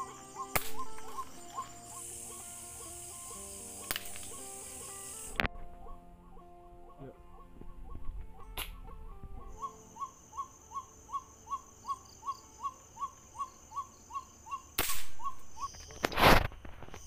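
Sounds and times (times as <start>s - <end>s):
night bird repeating short note: 0.0s - 15.8s.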